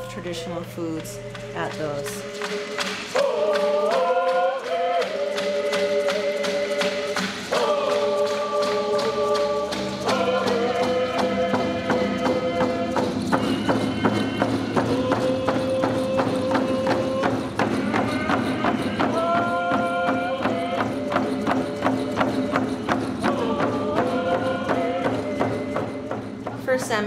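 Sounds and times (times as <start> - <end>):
group chant-like singing: 0.0 - 26.5
steady drumbeat: 0.0 - 27.0.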